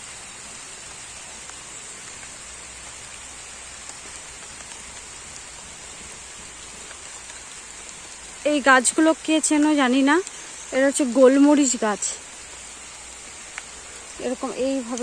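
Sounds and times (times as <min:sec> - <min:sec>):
raindrop ticks: 0:00.0 - 0:15.0
steady rain on trees: 0:00.0 - 0:15.0.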